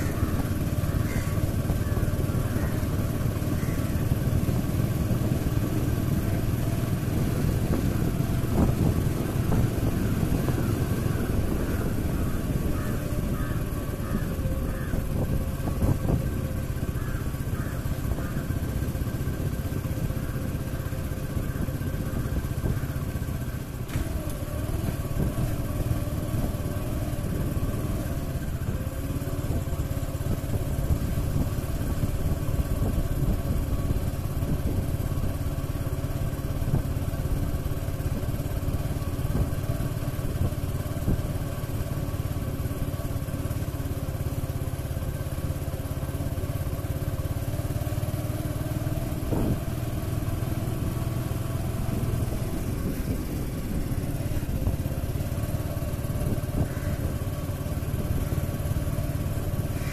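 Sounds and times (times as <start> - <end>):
motorcycle engine running slowly: 0.0 - 59.9.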